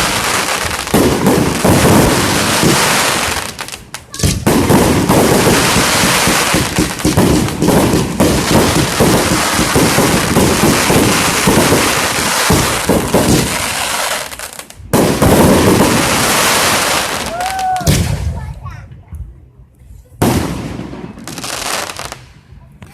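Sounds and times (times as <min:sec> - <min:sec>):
fireworks crackling bangs: 0:00.0 - 0:19.3, 0:20.2 - 0:22.9.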